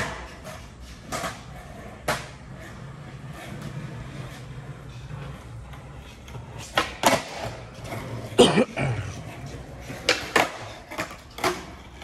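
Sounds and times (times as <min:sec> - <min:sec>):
skateboard clacking on concrete: 0:00.0 - 0:08.4, 0:09.1 - 0:12.0
skateboard wheels rolling on concrete: 0:00.0 - 0:12.0.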